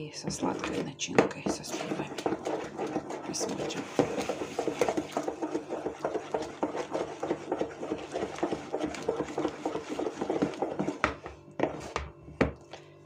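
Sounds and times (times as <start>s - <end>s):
wooden spoon stirring in plastic bowl: 0.0s - 12.6s.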